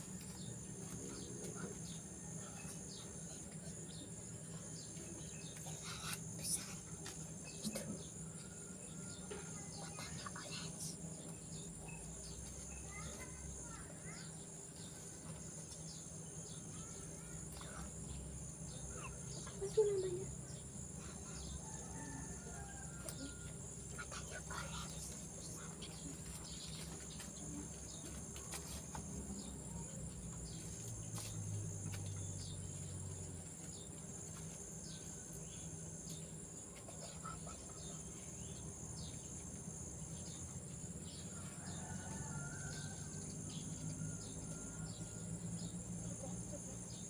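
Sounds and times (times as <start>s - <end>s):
insects buzzing: 0.0s - 47.0s.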